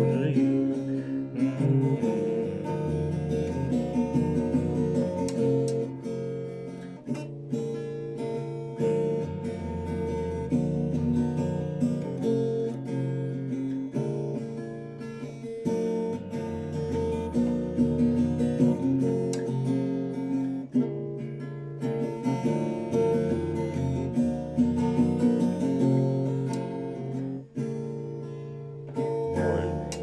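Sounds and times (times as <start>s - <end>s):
acoustic guitar strumming chords: 0.0s - 30.0s.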